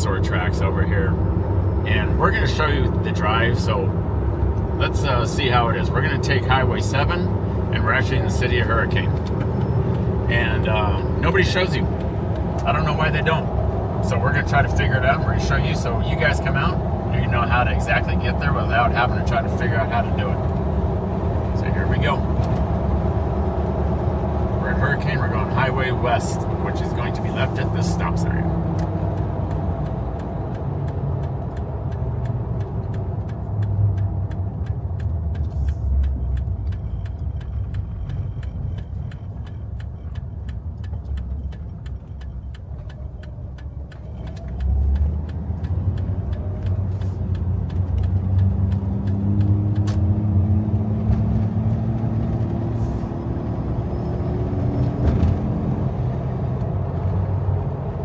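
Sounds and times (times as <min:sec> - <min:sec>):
car engine running: 0:00.0 - 0:58.0
turn signal ticking: 0:00.0 - 0:58.0.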